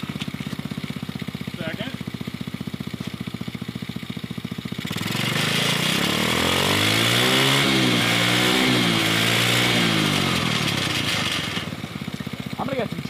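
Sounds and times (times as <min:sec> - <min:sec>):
go-kart engine revving: 0:00.0 - 0:13.0.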